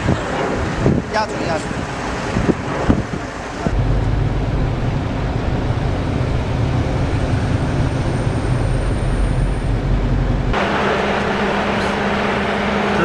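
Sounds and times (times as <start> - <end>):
wind buffeting: 0.0 - 13.0.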